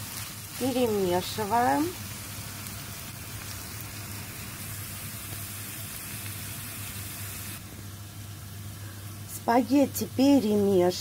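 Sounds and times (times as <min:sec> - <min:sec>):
meat sizzling in a frying pan: 0:00.0 - 0:11.0
pot of water boiling: 0:00.0 - 0:11.0
steady low hum: 0:00.0 - 0:11.0.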